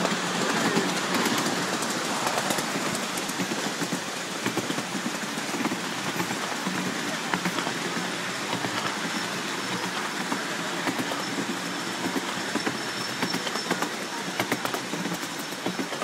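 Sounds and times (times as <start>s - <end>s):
miniature steam train running: 0.0s - 16.0s
wheels clicking over rails: 0.0s - 16.0s.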